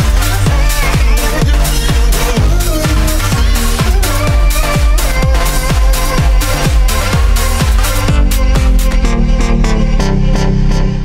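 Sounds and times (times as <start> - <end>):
steady kick drum: 0.0 - 10.0
sustained synth chords: 0.0 - 11.0.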